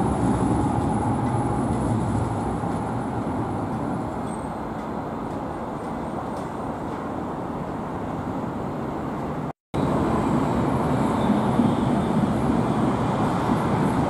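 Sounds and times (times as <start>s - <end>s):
street noise: 0.0s - 14.0s
tram wheels rumbling on rails: 0.0s - 14.0s.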